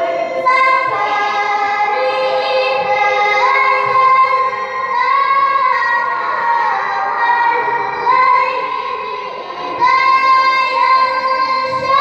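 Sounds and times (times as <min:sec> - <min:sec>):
woman chanting melodically: 0:00.0 - 0:12.0.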